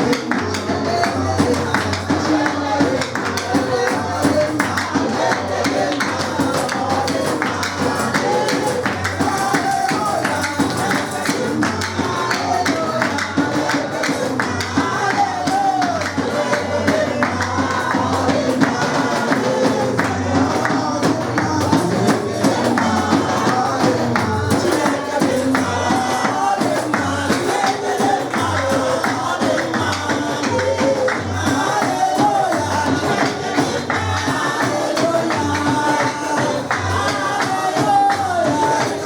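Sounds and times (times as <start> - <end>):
person singing: 0.0 - 39.0
tambourine beat: 0.0 - 39.0.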